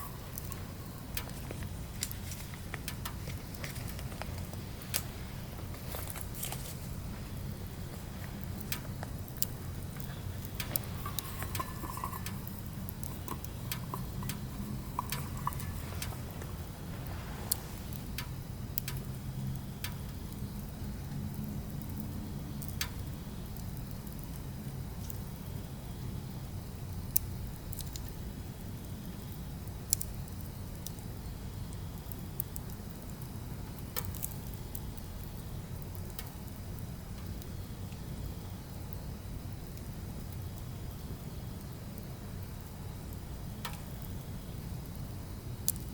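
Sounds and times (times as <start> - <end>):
firewood crackling and popping: 0.0 - 45.9
low rumble of fire: 0.0 - 45.9
thin whistles from fire: 0.0 - 45.9.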